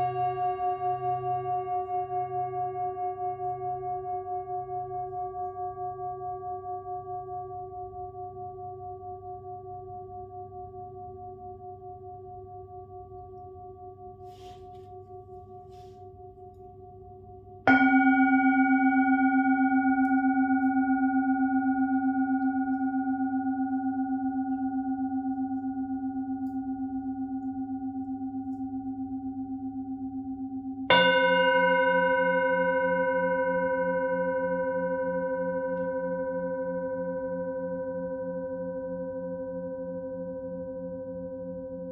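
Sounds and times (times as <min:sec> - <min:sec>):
singing bowl ringing: 0:00.0 - 0:41.9.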